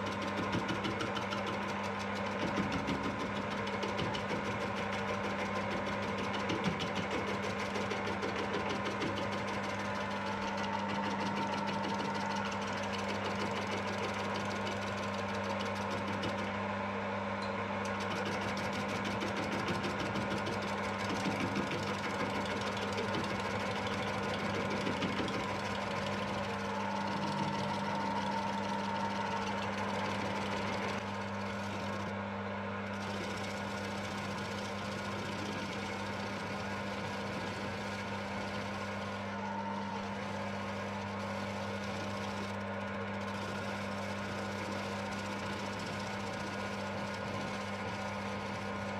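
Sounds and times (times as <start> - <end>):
metal lathe motor hum: 0.0 - 48.9.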